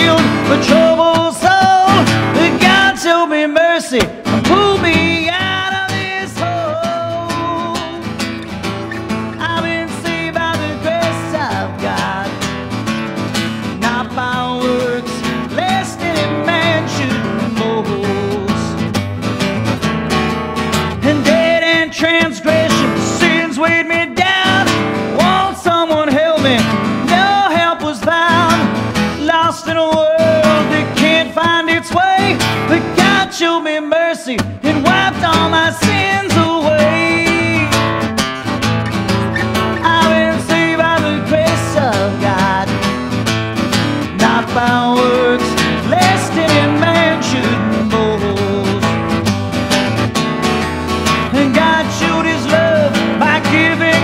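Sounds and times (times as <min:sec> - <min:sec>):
man singing: 0:00.0 - 0:19.0, 0:20.7 - 0:54.0
acoustic guitar strumming: 0:00.0 - 0:54.0.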